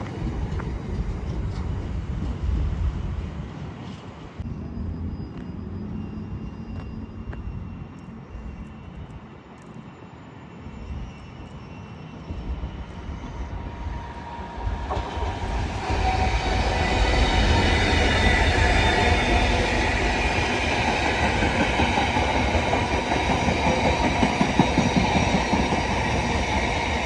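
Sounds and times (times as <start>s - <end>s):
train passing: 0.0s - 27.0s.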